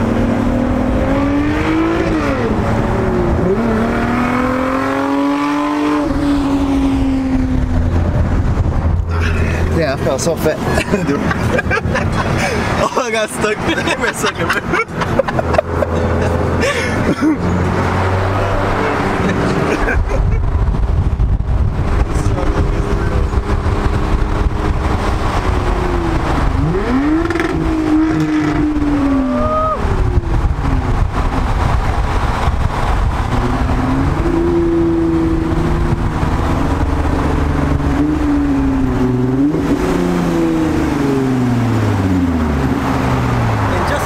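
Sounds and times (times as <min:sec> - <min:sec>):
car engine accelerating: 0:00.0 - 0:44.0
road and wind noise: 0:00.0 - 0:44.0.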